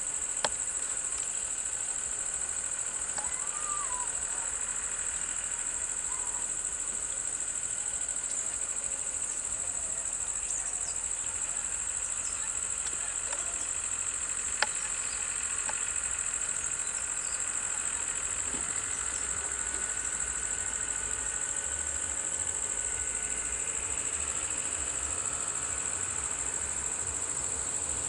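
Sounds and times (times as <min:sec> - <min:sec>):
bus engine idling: 0:00.0 - 0:28.0
high-pitched insect drone: 0:00.0 - 0:28.0.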